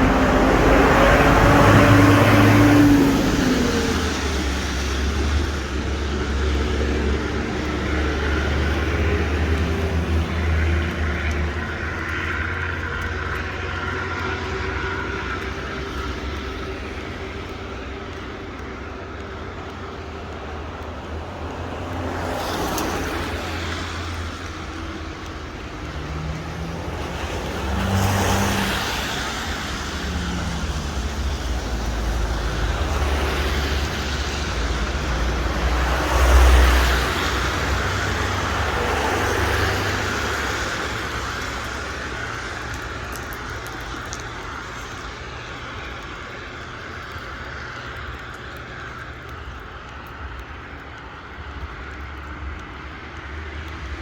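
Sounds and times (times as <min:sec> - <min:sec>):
tyres hissing on wet road: 0:00.0 - 0:54.0
vehicle engine rumble: 0:00.0 - 0:54.0.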